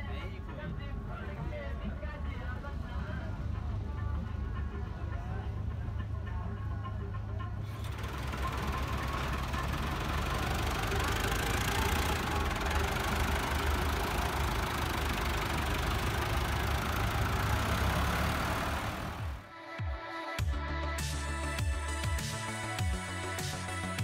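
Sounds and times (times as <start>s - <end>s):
tractor diesel engine running: 0.0s - 19.5s.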